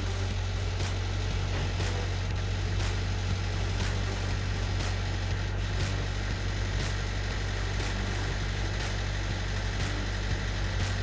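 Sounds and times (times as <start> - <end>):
skid steer engine idling: 0.0 - 11.0.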